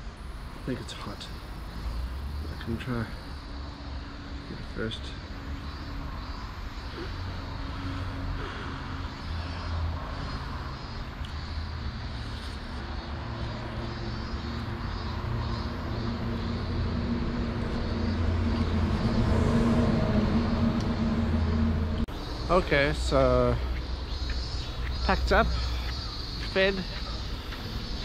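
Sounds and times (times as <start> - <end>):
engine drone with low hum: 0.0 - 28.0.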